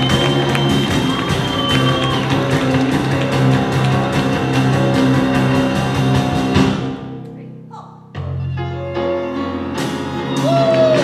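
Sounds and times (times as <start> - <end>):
live band playing upbeat music: 0.0 - 6.9, 8.3 - 11.0.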